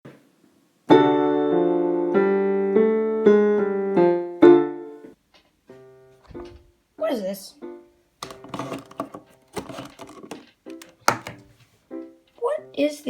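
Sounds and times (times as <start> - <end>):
piano chords: 0.9 - 13.0.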